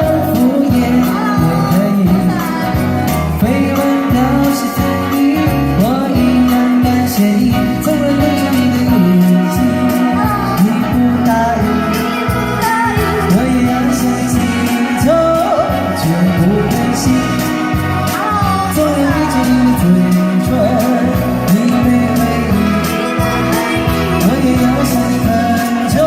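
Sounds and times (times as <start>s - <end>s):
instrumental accompaniment with beat: 0.0s - 26.0s
person singing pop song: 0.0s - 26.0s.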